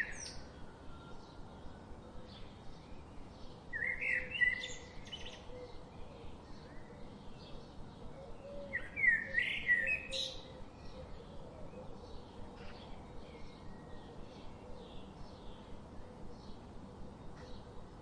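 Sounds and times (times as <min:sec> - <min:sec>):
bird warbling song: 0:00.0 - 0:17.8
faint bird chirping: 0:00.0 - 0:18.0.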